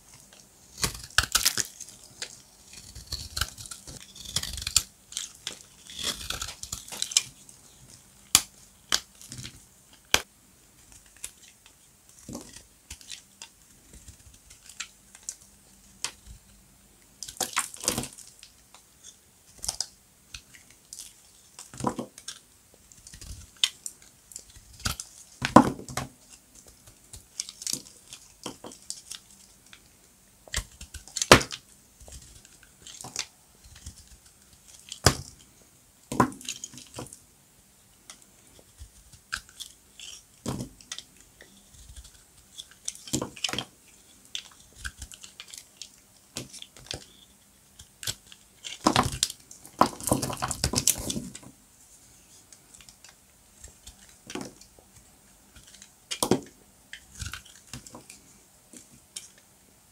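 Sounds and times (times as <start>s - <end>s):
dry soap crunching and crackling: 0.0s - 37.2s, 37.9s - 59.9s.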